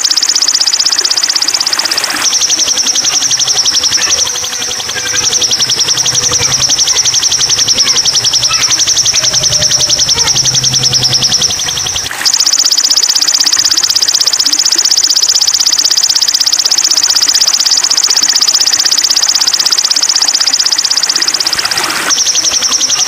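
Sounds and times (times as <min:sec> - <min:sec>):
lower pulsing trill: 0:00.0 - 0:23.0
shrill fast-pulsing trill: 0:00.0 - 0:23.0.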